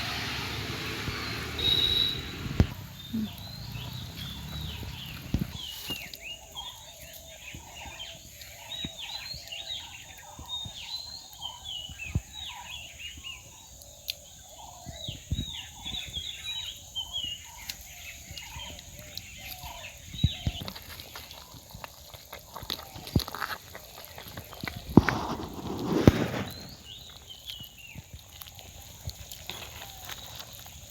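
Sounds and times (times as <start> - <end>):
many birds chirping: 0.0 - 21.8, 24.0 - 30.9.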